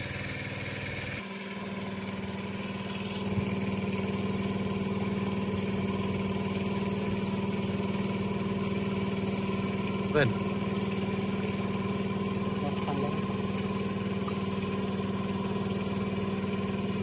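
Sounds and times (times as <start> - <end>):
small engine running water pump: 0.0 - 17.0.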